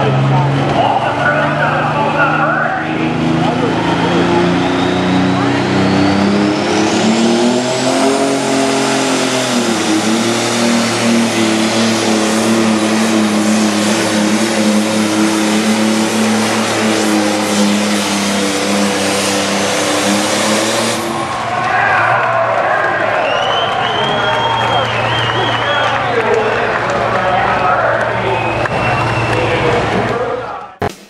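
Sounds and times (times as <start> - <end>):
diesel tractor engine running flat out: 0.0 - 30.6.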